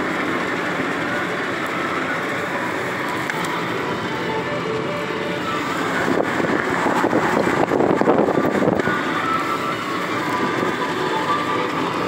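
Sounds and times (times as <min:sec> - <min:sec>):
car tyres and engine rumble: 0:00.0 - 0:12.0.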